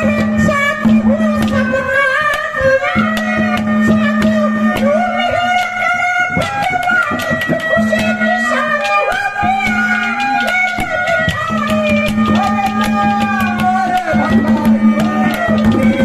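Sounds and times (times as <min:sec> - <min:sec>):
quick hand-drum beat: 0:00.0 - 0:16.0.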